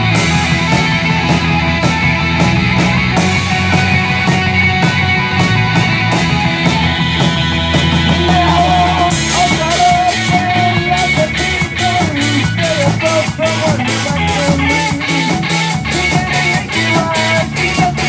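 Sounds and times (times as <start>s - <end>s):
drum kit beat: 0.0s - 18.0s
electric guitars: 0.0s - 18.0s.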